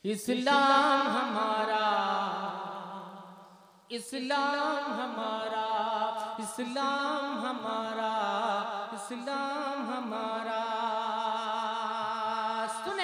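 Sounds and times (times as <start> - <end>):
man singing unaccompanied: 0.0 - 3.2, 3.9 - 13.0.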